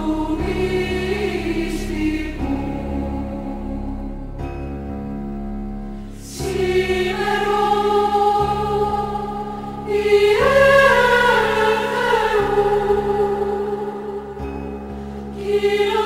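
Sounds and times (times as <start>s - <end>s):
choir singing a chant: 0.0s - 4.2s, 6.2s - 14.7s, 15.3s - 16.0s.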